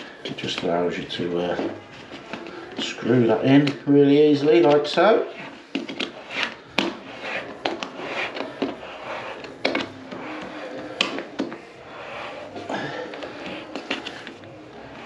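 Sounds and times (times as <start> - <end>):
plastic threads scraping: 0.0 - 15.0.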